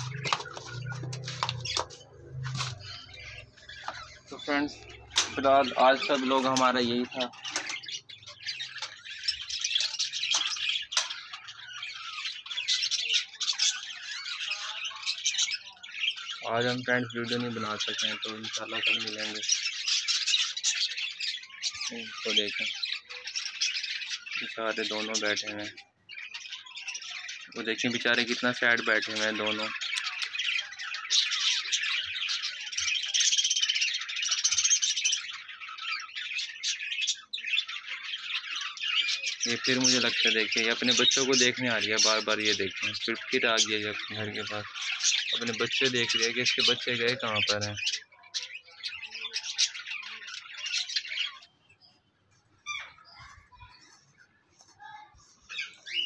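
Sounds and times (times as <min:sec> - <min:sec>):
small birds chattering: 0:00.0 - 0:56.0.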